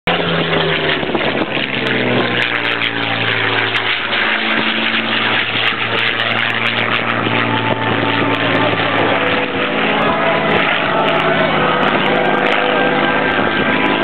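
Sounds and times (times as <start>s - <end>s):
propeller plane engine overhead: 0.0s - 14.0s.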